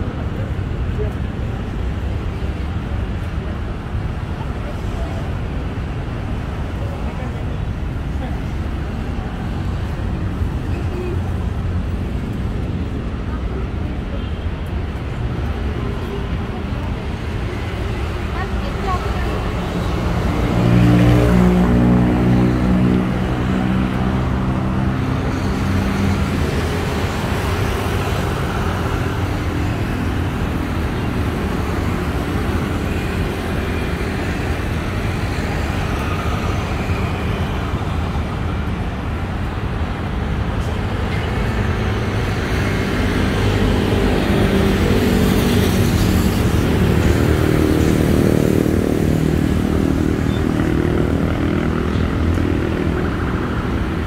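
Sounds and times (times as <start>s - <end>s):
city road traffic: 0.0s - 54.0s.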